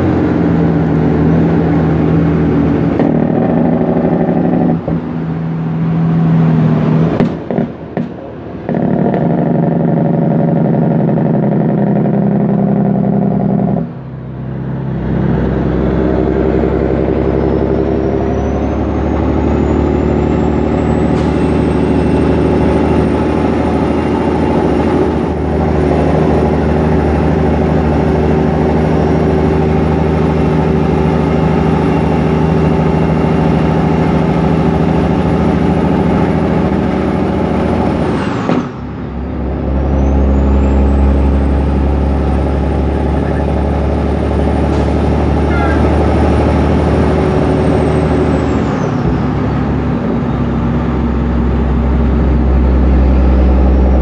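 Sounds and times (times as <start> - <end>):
truck diesel engine pulling: 0.0 - 54.0.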